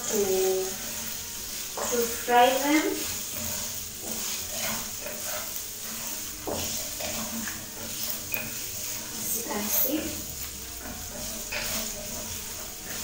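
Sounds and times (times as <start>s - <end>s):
meat sizzling in a wok: 0.0s - 13.0s
wooden spoon stirring: 0.0s - 13.0s.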